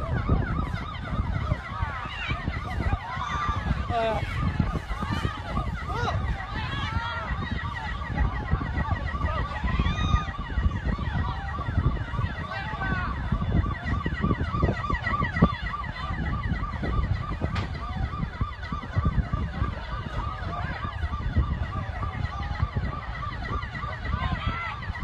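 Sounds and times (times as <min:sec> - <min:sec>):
emergency sirens yelping: 0:00.0 - 0:25.0
steady low rumble: 0:00.0 - 0:25.0.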